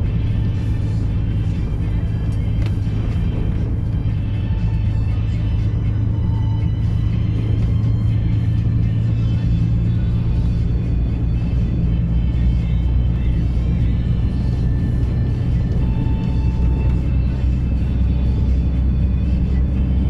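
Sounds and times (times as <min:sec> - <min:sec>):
music playing: 0:00.0 - 0:20.0
road noise: 0:00.0 - 0:20.0
truck engine drone: 0:00.0 - 0:20.0.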